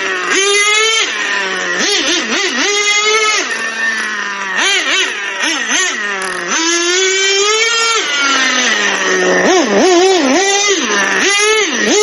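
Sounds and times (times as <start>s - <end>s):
nitro rc car engine revving: 0.0s - 12.0s.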